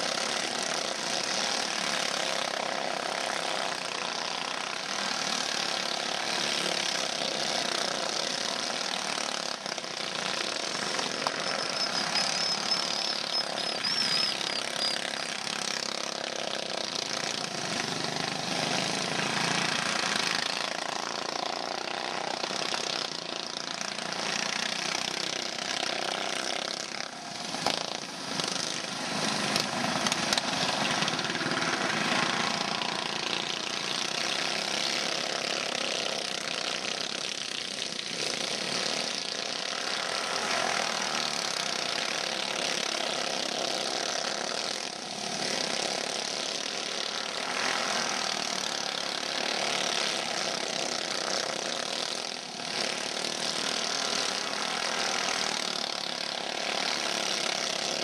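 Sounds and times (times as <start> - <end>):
go-kart engines buzzing: 0.0 - 58.0.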